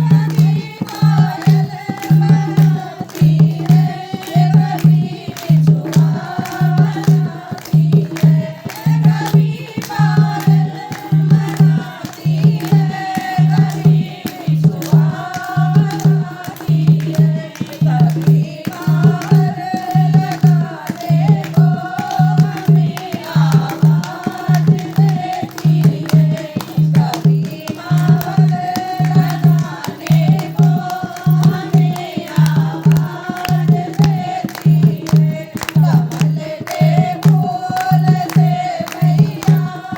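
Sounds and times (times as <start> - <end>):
person singing devotional song: 0.0 - 39.9
repeating drum beat: 0.0 - 39.9.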